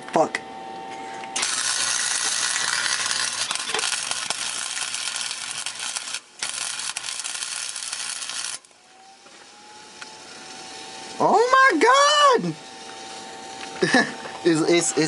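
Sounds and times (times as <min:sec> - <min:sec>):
welding arc crackling and sizzling: 0:01.4 - 0:15.0.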